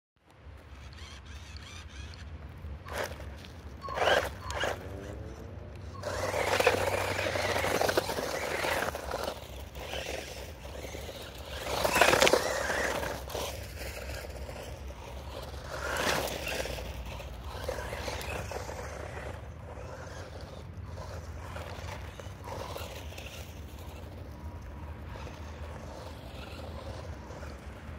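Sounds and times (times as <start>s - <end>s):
toy truck tyres scraping dirt: 0.4s - 27.9s.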